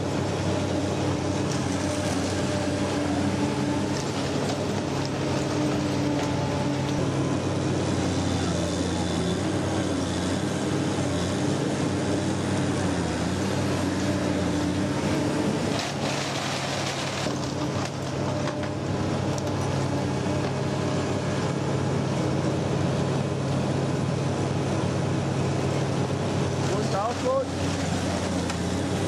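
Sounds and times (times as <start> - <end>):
shredder grinding waste: 0.0 - 23.1, 25.7 - 29.0
diesel engine drone: 0.0 - 29.0.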